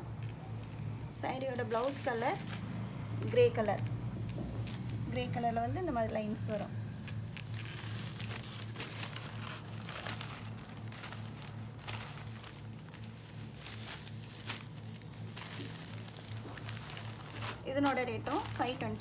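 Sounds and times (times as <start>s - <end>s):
fabric rustling and crinkling: 0.0s - 19.0s
steady low hum: 0.0s - 19.0s.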